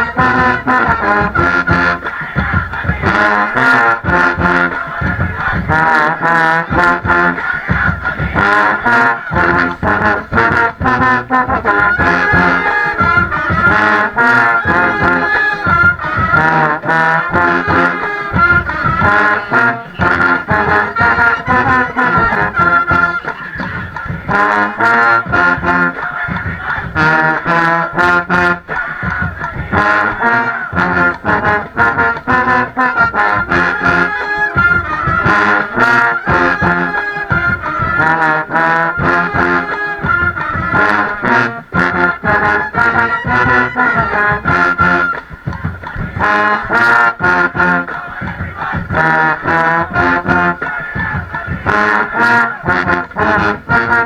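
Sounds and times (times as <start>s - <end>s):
brass band playing: 0.0s - 54.0s
drums striking steady beat: 0.0s - 54.0s.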